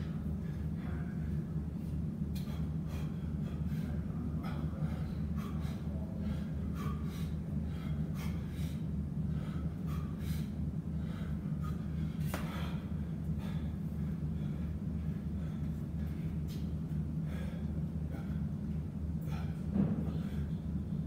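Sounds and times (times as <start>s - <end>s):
man breathing hard: 0.0s - 21.0s
steady low hum: 0.0s - 21.0s.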